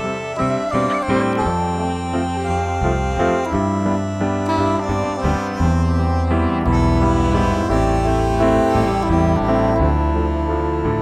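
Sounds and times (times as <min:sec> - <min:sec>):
gentle piano instrumental: 0:00.0 - 0:11.0.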